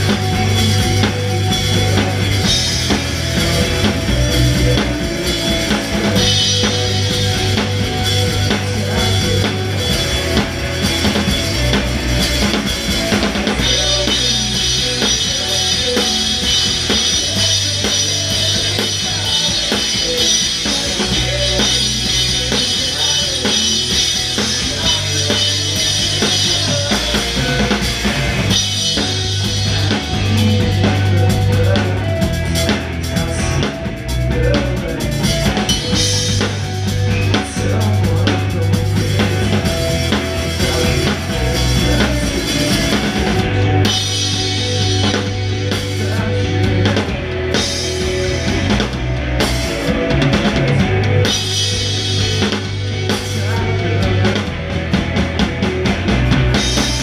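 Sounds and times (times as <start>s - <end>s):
rock band low held notes: 0.0s - 57.0s.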